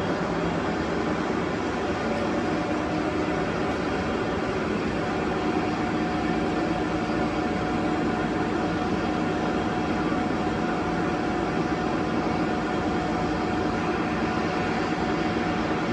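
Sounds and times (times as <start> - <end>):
lathe whirring with whine: 0.0 - 15.9.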